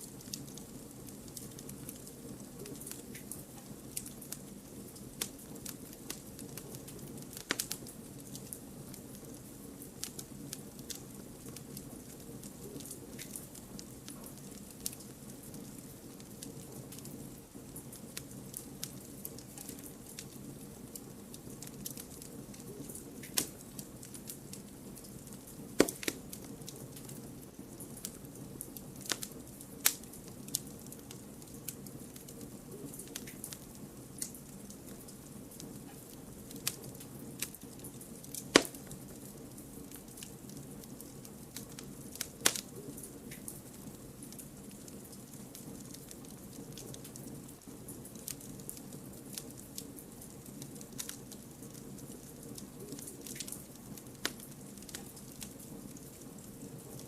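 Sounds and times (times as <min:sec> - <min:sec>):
fire crackling and popping: 0:00.0 - 0:57.0
flames rushing: 0:00.0 - 0:57.0.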